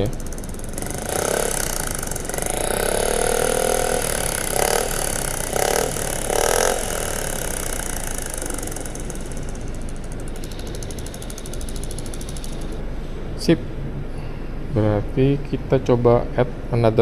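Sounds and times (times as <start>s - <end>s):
scooter engine idling and revving: 0.0s - 14.0s.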